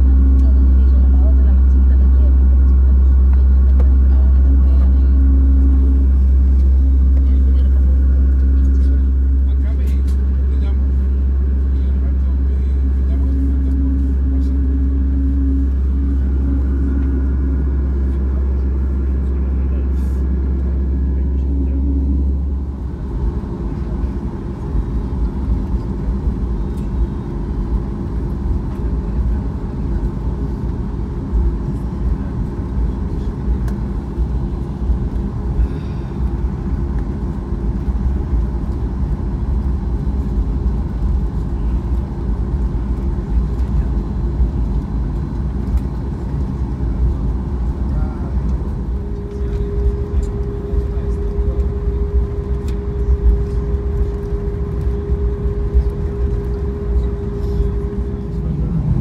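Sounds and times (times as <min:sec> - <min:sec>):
deep rumble of wheels: 0:00.0 - 0:59.0
jet engines humming: 0:00.0 - 0:59.0.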